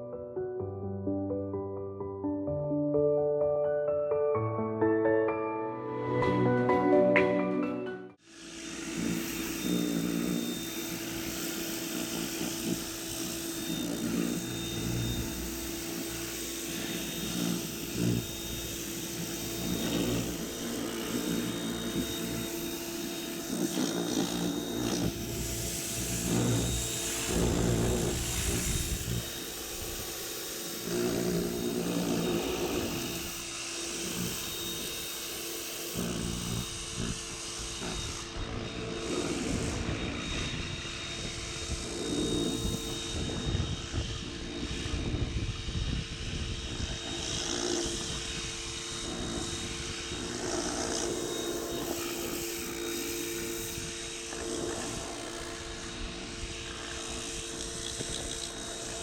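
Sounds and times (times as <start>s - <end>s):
pressure washer motor humming: 8.2s - 45.8s, 48.1s - 59.0s.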